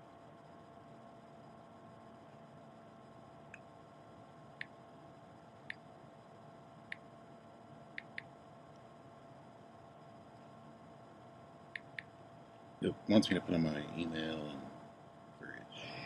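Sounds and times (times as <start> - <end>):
quiet room hum: 0.0 - 16.0.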